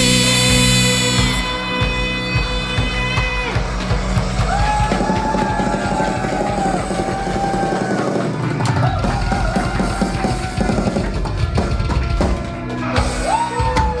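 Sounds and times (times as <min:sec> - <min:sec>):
drum kit beat: 0:00.0 - 0:14.0
rock band playing: 0:00.0 - 0:14.0.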